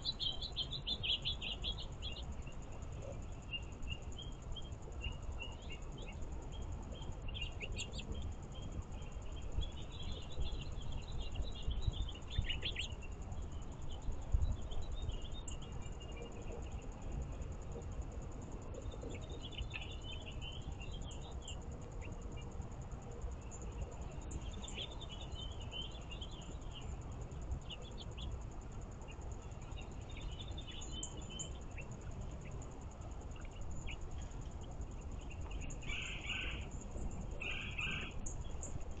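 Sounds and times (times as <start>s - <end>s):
low background rumble: 0.0s - 39.0s
songbirds chirping: 0.0s - 39.0s.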